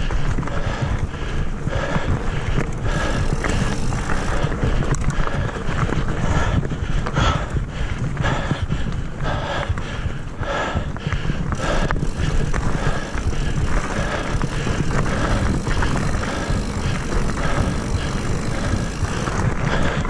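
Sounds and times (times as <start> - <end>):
bike rattling over bumps: 0.0 - 20.0
bike tyres rumbling on dirt: 0.0 - 20.0
wind buffeting microphone: 0.0 - 20.0.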